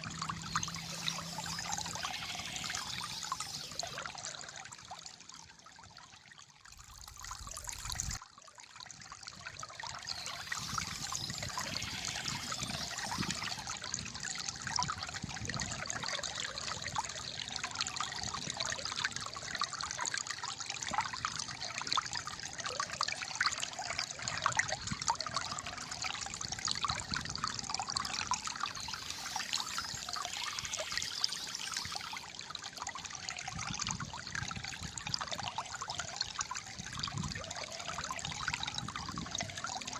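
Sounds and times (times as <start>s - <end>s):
shallow water flowing and gurgling: 0.0s - 39.9s.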